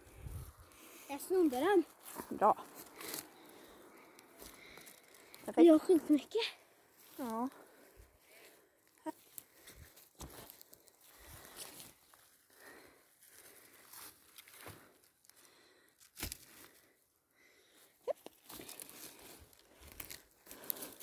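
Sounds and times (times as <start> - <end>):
undergrowth rustling and crackling: 0.0 - 17.0, 18.2 - 21.0.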